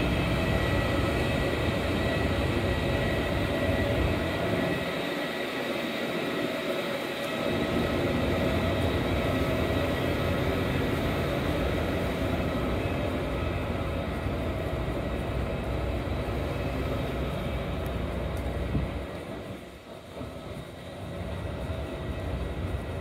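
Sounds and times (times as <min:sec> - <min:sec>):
electric train rumbling past: 0:00.0 - 0:23.0
faint steady whine: 0:00.0 - 0:23.0.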